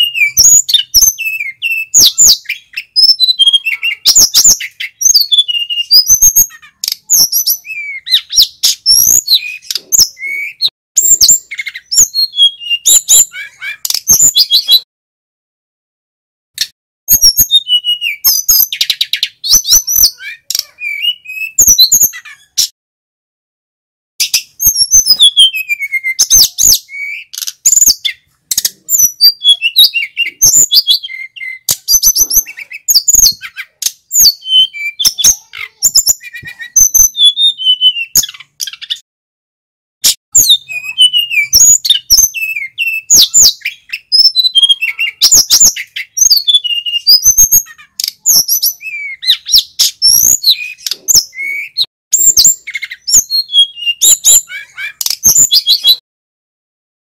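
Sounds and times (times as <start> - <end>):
bird singing chirps and trills: 0.0 - 14.9, 16.6 - 22.7, 24.2 - 39.0, 40.3 - 56.0.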